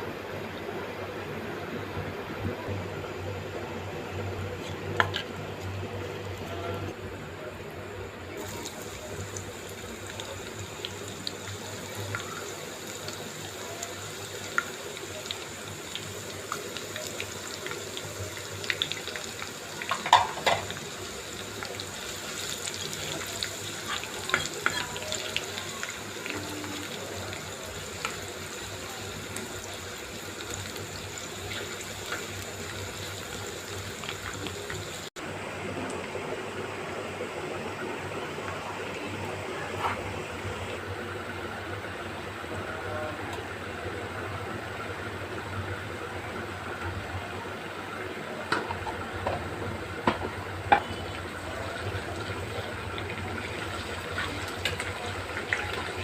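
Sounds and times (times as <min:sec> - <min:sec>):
cooking hiss: 0:00.0 - 0:56.0.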